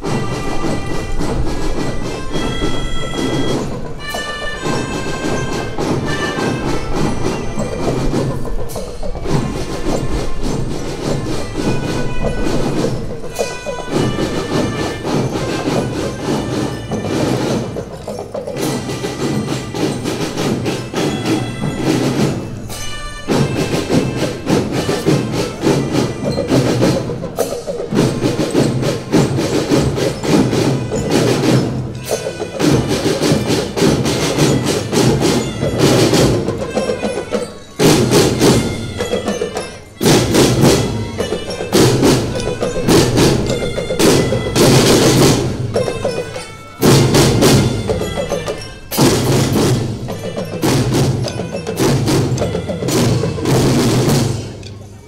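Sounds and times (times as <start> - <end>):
snare drums beating: 0.0 - 54.8
bell lyres ringing melody: 0.0 - 55.0
melodicas: 0.0 - 55.0.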